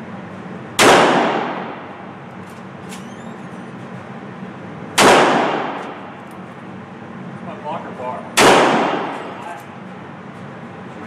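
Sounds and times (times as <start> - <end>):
hum and hiss of room: 0.0 - 11.0.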